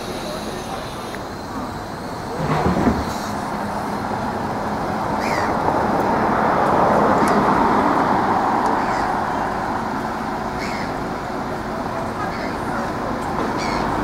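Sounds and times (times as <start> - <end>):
coach diesel engine running: 0.0 - 14.0.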